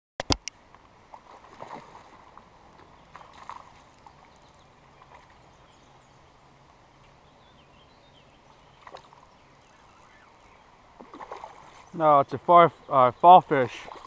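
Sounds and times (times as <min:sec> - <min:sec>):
flowing creek: 0:00.3 - 0:14.0
birds chirping: 0:02.2 - 0:14.0.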